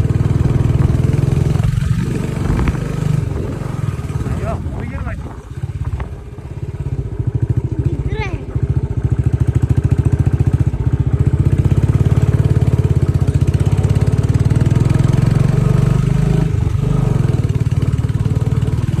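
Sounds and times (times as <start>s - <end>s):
single-cylinder motorcycle engine running: 0.0s - 19.0s.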